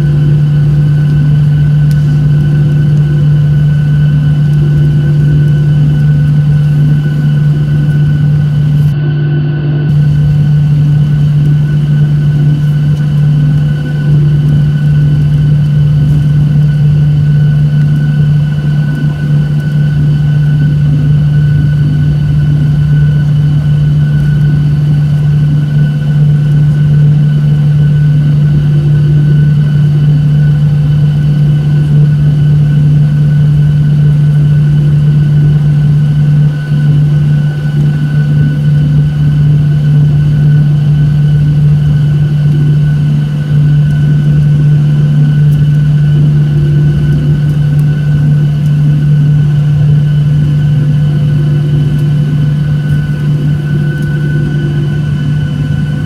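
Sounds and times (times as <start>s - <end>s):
aircraft cabin engine drone: 0.0s - 56.0s
thin steady whine: 0.0s - 56.0s.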